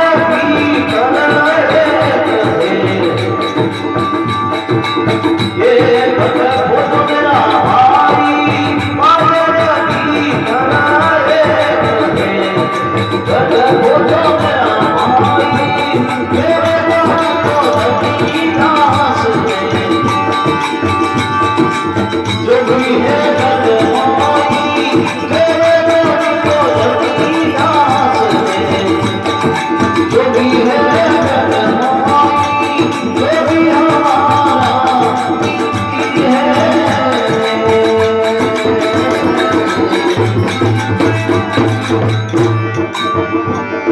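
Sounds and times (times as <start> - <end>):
devotional folk melody: 0.0 - 43.9
hand drum rhythm: 0.0 - 43.9.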